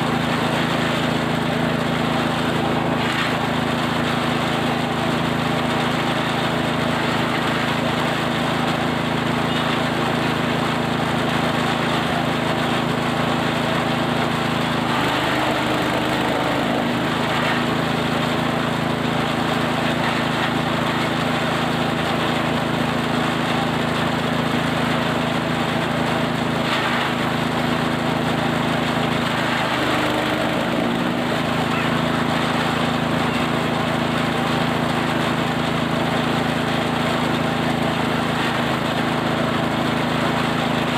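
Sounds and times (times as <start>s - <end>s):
forage chopper engine running: 0.0s - 40.9s.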